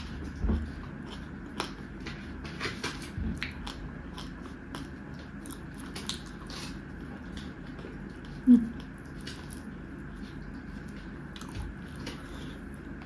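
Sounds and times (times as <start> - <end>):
person chewing and lip smacking: 0.0 - 13.0.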